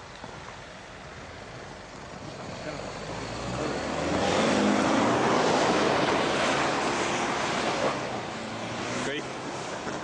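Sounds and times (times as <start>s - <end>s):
engine running: 0.0s - 10.0s
spinning tyres churning snow: 0.0s - 10.0s.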